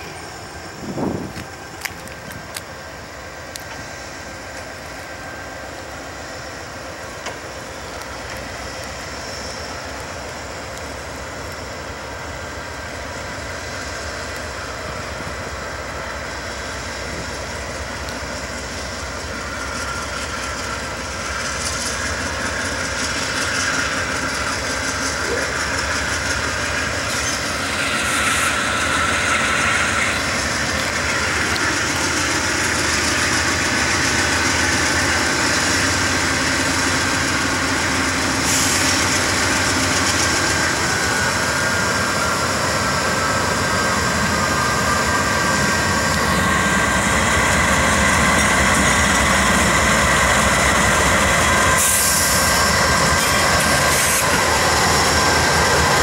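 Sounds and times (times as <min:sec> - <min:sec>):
diesel locomotive engines running: 0:00.0 - 0:56.0.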